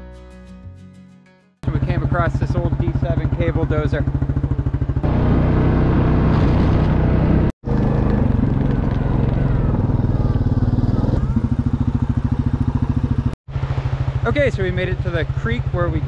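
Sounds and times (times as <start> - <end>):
small vehicle engine running: 1.6 - 16.0.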